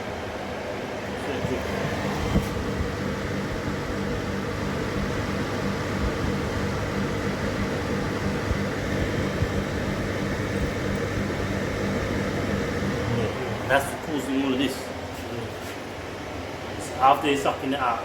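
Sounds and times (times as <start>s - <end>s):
dehumidifier hum: 0.0s - 18.0s.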